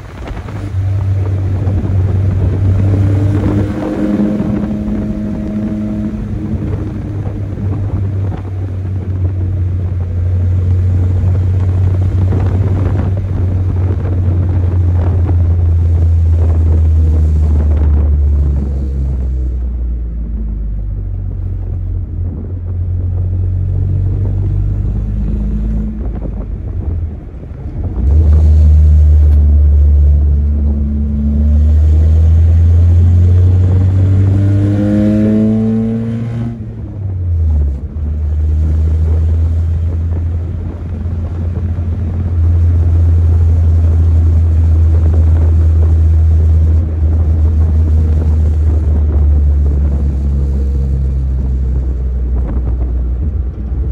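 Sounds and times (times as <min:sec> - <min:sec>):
pickup engine revving: 0:00.0 - 0:53.9.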